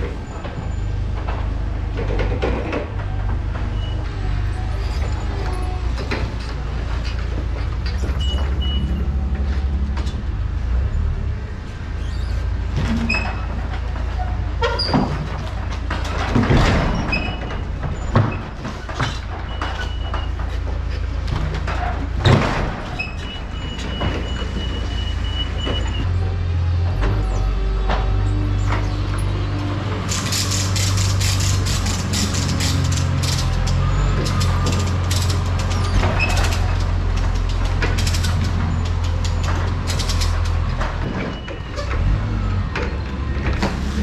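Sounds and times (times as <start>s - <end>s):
knocks and rattles: 0.0s - 10.4s, 12.6s - 26.2s, 26.8s - 44.0s
diesel truck engine drone: 0.0s - 44.0s
road noise: 0.0s - 44.0s.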